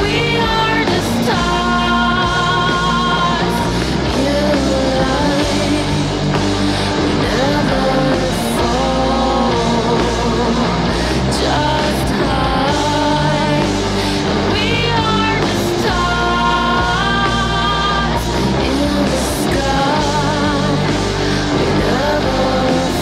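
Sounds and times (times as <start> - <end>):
rock band playing: 0.0 - 23.0
woman singing with vibrato: 0.0 - 23.0.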